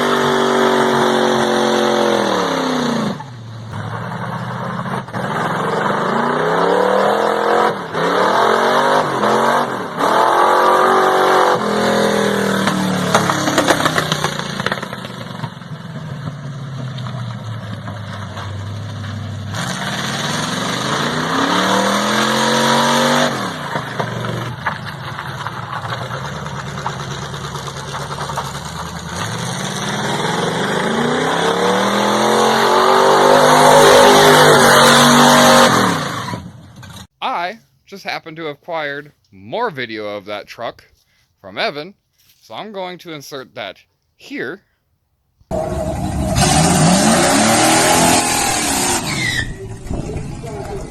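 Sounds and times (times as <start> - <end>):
truck engine revving: 0.0 - 37.1, 45.5 - 50.9.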